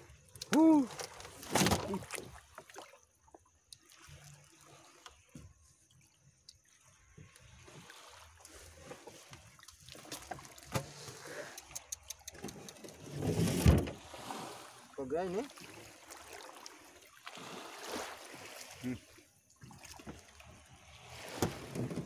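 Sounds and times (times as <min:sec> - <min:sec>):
water trickling and dripping: 0:01.9 - 0:13.1, 0:14.9 - 0:21.4.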